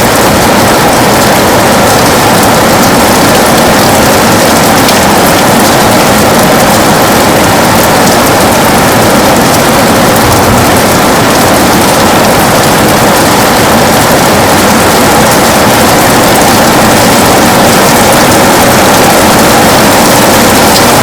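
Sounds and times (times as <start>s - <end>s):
heavy rain on a window: 0.0s - 21.0s.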